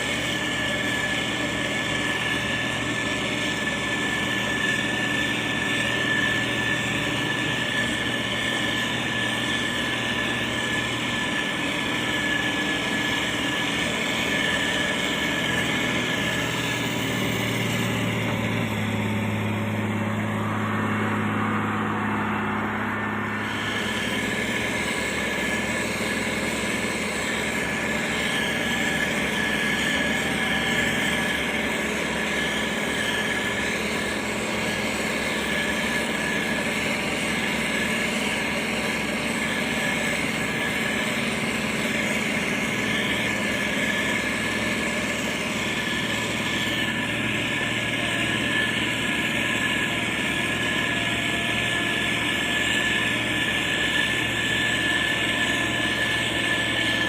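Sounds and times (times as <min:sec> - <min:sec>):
diesel engine running: 0:00.0 - 0:57.0
high whine: 0:00.0 - 0:57.0.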